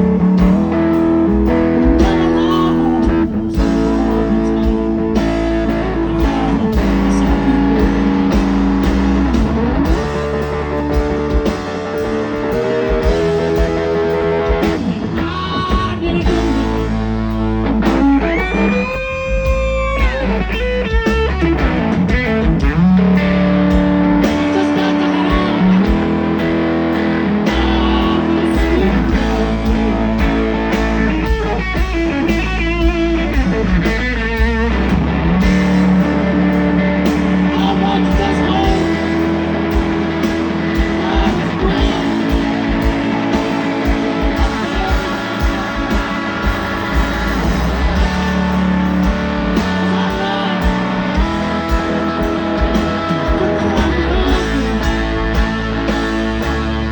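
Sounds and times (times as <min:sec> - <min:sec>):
bass guitar: 0:00.0 - 0:56.9
drums: 0:00.0 - 0:56.9
electric guitar solo: 0:00.0 - 0:56.9.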